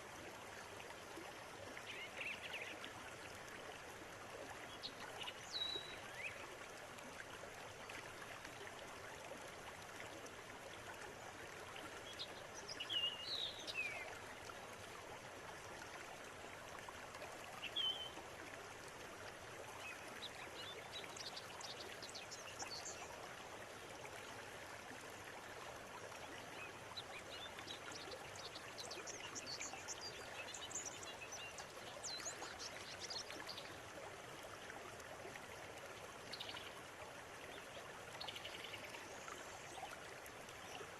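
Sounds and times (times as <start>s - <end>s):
river water running: 0.0s - 40.9s.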